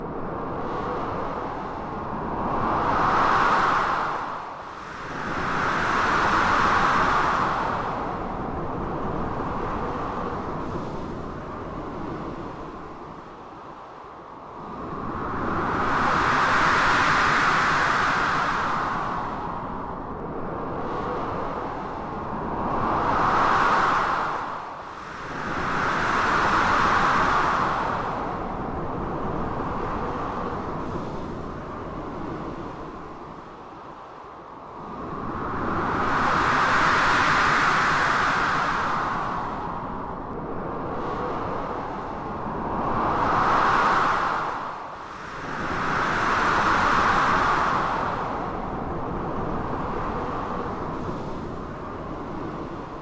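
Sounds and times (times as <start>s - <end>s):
blizzard wind: 0.0s - 53.0s.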